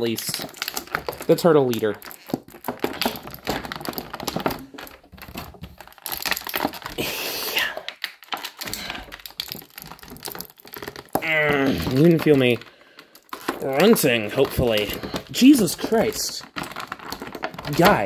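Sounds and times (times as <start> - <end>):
plastic blister tray crinkling: 0.0 - 18.0.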